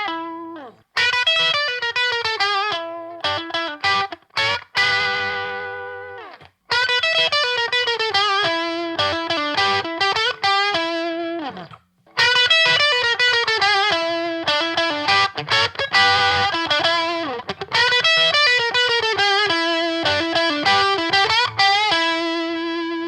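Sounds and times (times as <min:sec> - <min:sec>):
distorted electric guitar: 0:00.0 - 0:23.0
picked guitar riff: 0:00.0 - 0:23.0.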